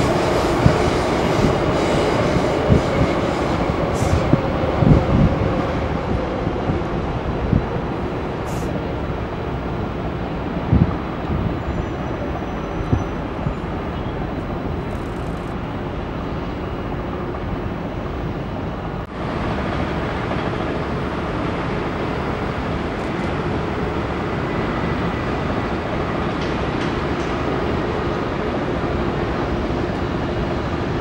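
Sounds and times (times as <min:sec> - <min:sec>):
jet airliner rumble: 0:00.0 - 0:27.2.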